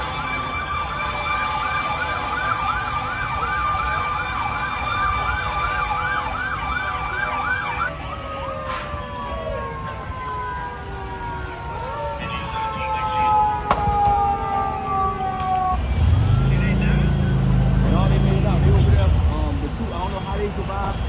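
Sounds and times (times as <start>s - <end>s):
siren fast yelp: 0.0s - 18.0s
wailing sirens: 0.0s - 21.0s.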